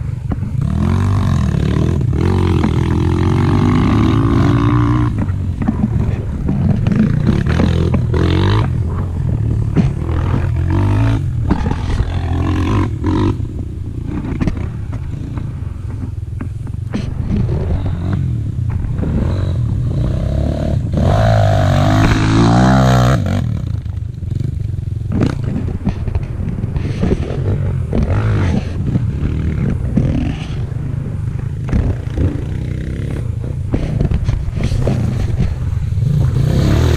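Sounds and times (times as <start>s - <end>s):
dirt bike engine revving: 0.0s - 16.2s, 16.8s - 36.9s.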